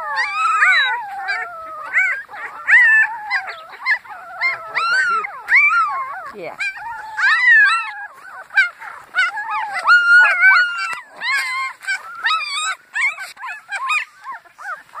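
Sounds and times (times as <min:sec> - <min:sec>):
puppies howling and whining: 0:00.0 - 0:15.0.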